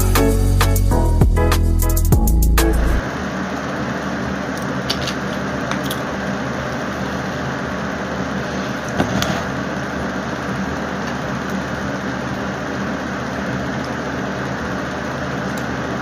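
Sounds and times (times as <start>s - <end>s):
fan hum and hiss: 0.0s - 16.0s.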